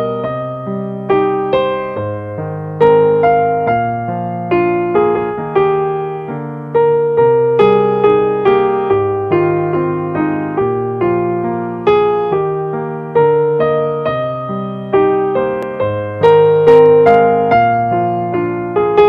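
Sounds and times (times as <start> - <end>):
ambient piano keyboard music: 0.0 - 19.0.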